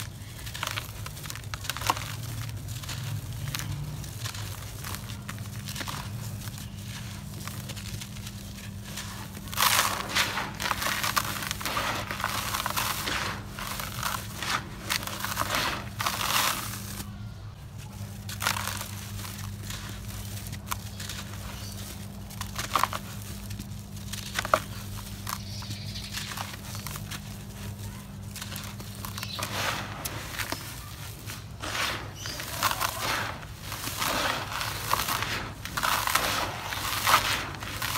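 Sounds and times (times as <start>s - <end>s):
cement lumps crunching by hand: 0.0s - 37.9s
steady low hum: 0.0s - 37.9s
grit pouring into plastic tub: 0.4s - 17.0s, 18.4s - 24.6s, 28.3s - 37.9s.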